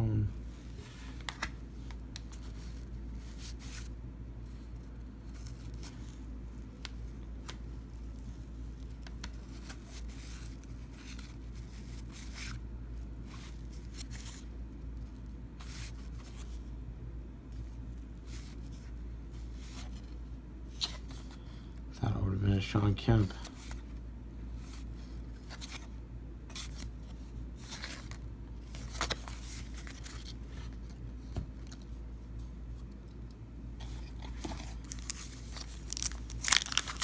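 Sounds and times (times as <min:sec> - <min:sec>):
steady low hum: 0:00.0 - 0:37.0
paper cards rustling and scraping: 0:00.6 - 0:16.8, 0:17.4 - 0:21.7, 0:23.1 - 0:33.2, 0:33.8 - 0:37.0.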